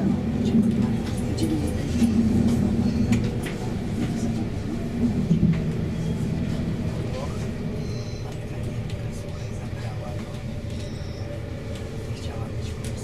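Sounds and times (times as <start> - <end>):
train rumble and hum inside car: 0.0 - 13.0.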